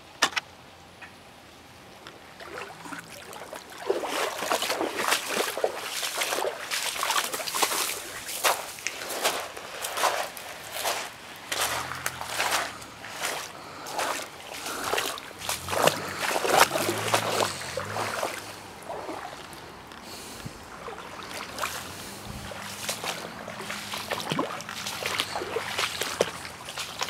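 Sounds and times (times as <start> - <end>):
footsteps on gravelly creek bed: 2.0 - 27.0
scuffs and brushing: 4.0 - 27.0.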